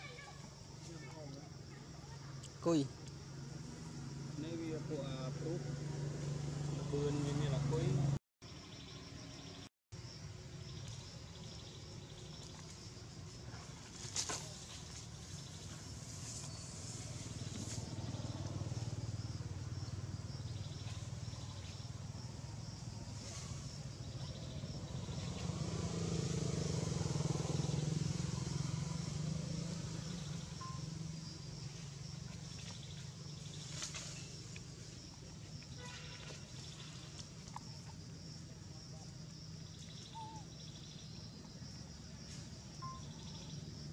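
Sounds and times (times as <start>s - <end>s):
passing motor vehicles: 2.4s - 8.2s, 13.5s - 43.9s.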